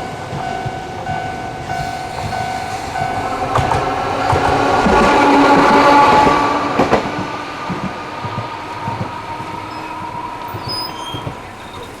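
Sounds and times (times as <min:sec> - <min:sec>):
tram running tone: 0:00.0 - 0:12.0
tram wheels knocking on rail joints: 0:00.0 - 0:12.0.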